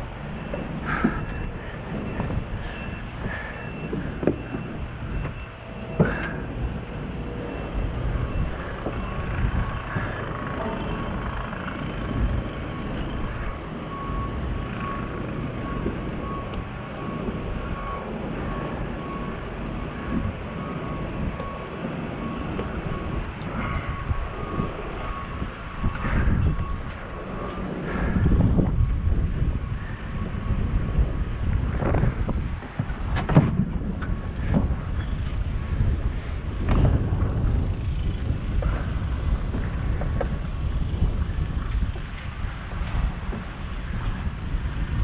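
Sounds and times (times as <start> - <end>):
motor rumbling: 0.0 - 45.0.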